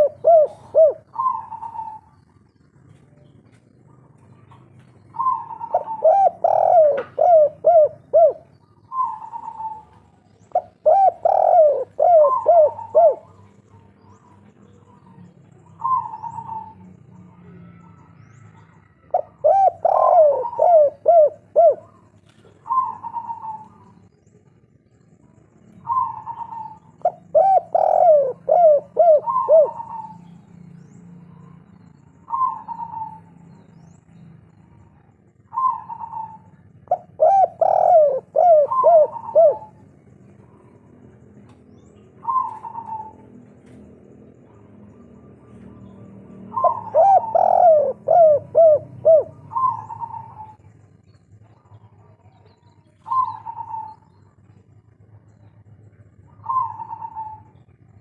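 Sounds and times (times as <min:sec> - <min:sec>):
dove cooing: 0:00.0 - 0:24.6, 0:25.7 - 0:33.9, 0:34.5 - 0:58.0.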